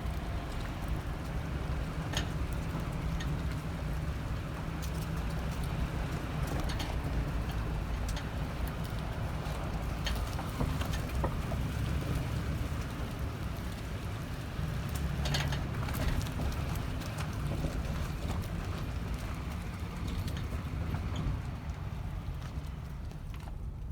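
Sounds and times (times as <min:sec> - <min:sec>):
low road and drivetrain rumble: 0:00.0 - 0:23.9.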